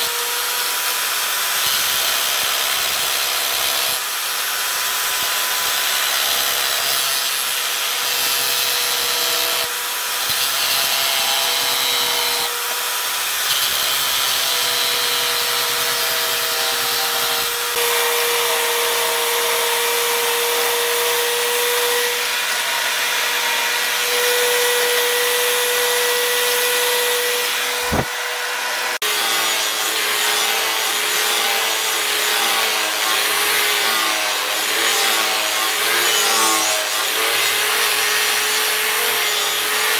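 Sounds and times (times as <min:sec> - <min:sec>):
grinder abrading a knife: 0:00.0 - 0:39.9.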